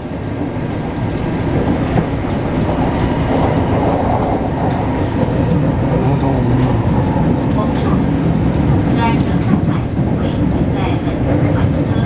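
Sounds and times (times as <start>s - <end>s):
electric train rumbling on track: 0.0s - 12.0s
train clicks: 0.0s - 12.0s.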